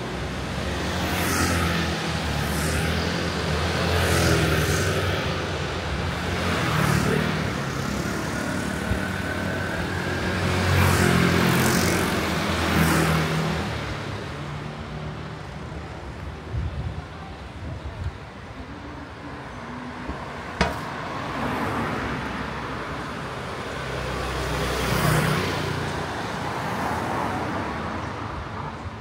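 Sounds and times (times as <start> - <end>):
vehicles passing close by: 0.0 - 29.0.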